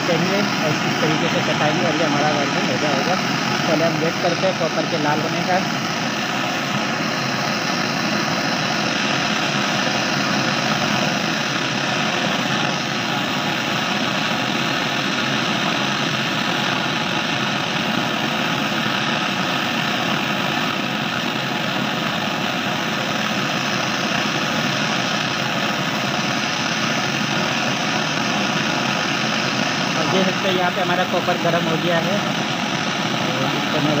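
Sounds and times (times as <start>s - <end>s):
torch flame hissing: 0.0s - 34.0s.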